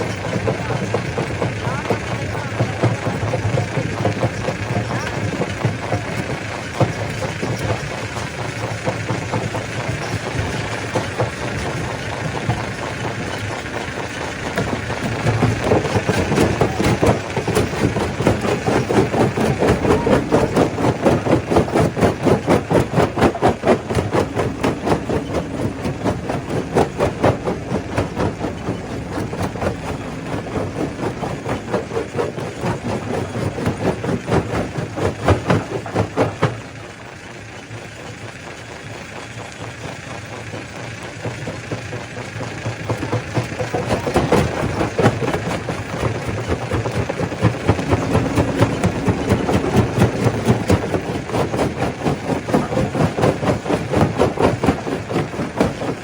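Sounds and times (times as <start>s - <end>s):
stone crusher machine running: 0.0s - 56.0s.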